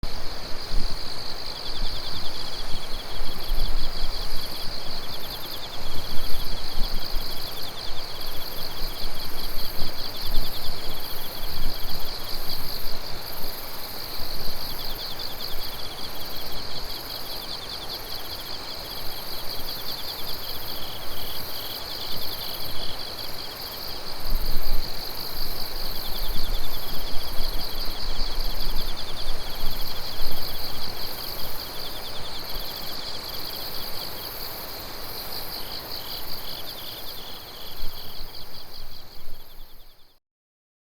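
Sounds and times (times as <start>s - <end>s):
lower insect trill: 0.1s - 40.2s
high pulsing insect trill: 0.2s - 40.2s
very high insect chirps: 1.0s - 40.2s.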